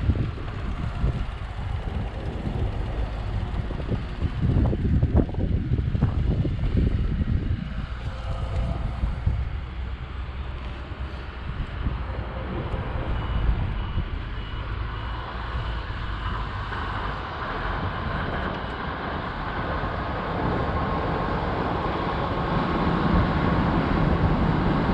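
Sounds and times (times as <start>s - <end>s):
vehicle rumble: 0.0s - 24.9s.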